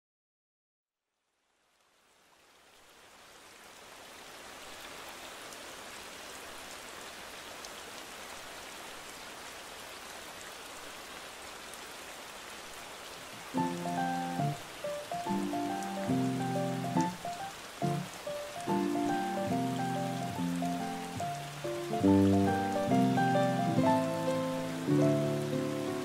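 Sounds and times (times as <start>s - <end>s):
steady rain falling: 1.4s - 26.0s.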